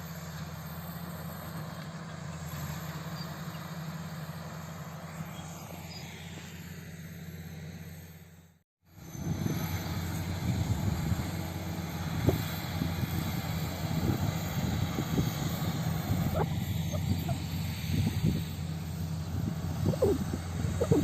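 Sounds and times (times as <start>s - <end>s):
bulldozer diesel engine running: 0.0s - 8.4s, 9.0s - 21.0s.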